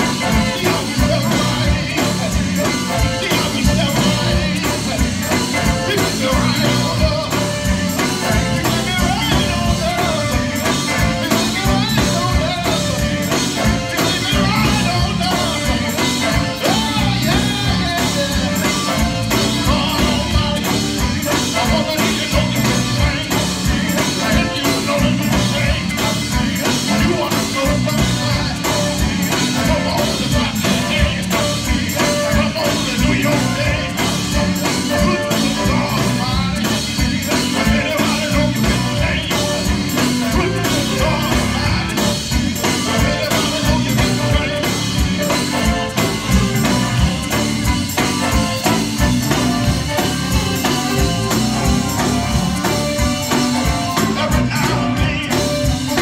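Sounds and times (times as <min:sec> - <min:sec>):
lead singer singing: 0:00.0 - 0:47.4, 0:48.0 - 0:56.0
gospel band playing: 0:00.0 - 0:56.0.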